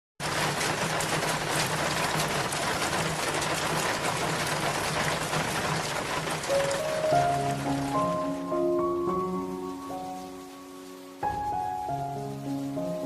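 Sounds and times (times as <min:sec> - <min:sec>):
falling water rushing: 0:00.2 - 0:13.0.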